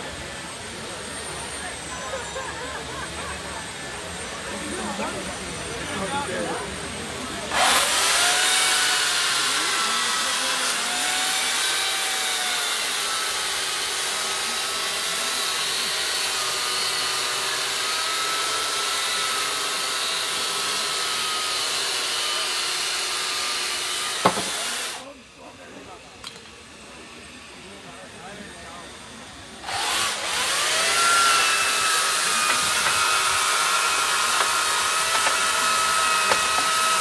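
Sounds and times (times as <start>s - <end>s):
electric chainsaw cutting ice: 0.0s - 25.2s, 29.6s - 37.0s.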